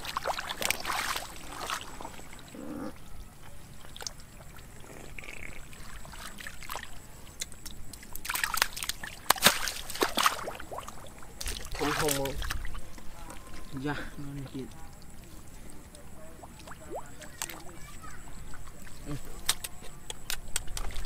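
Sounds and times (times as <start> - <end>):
fish splashing in a plastic tub: 0.0 - 2.5, 3.7 - 21.0
splashing in shallow water: 0.0 - 21.0.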